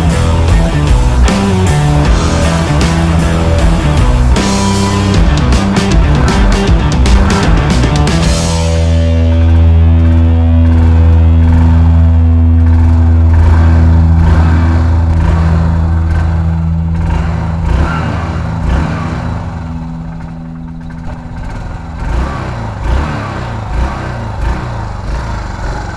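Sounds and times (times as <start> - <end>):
steady low drone: 0.0 - 25.7
motorcycle engine running: 0.0 - 25.9.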